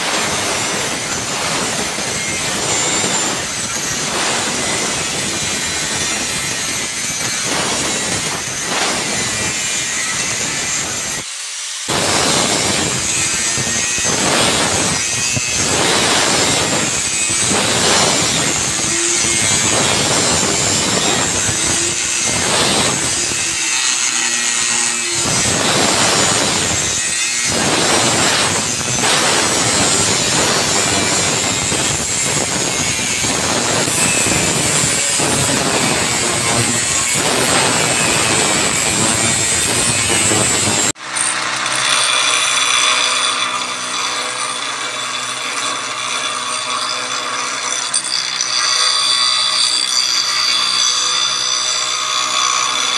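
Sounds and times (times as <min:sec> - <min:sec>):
angle grinder grinding steel: 0:00.0 - 0:52.9
grinding wheel whine: 0:00.0 - 0:52.9.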